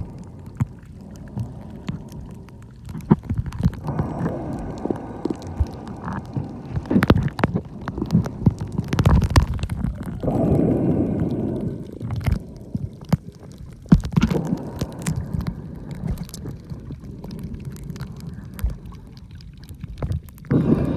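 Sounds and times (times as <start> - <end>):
gurgling rush of water: 0.0 - 20.9
muffled underwater water rumble: 0.0 - 20.9
underwater clicks: 0.0 - 20.9.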